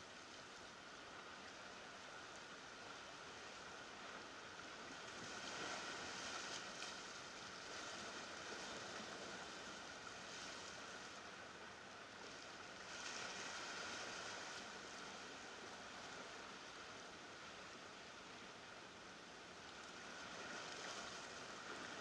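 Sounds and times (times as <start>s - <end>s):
faint ocean surf on rocks: 0.0s - 22.0s.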